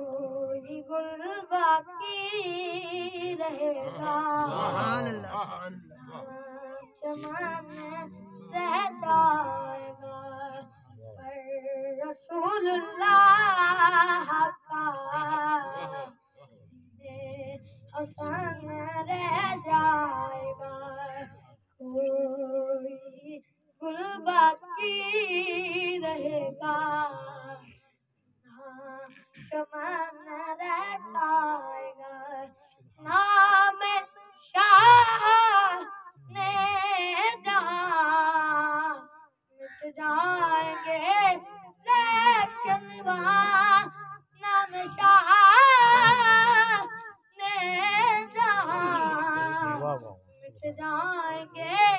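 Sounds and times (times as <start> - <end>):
boy singing unaccompanied: 0.0 - 16.2, 16.8 - 27.7, 28.5 - 51.9.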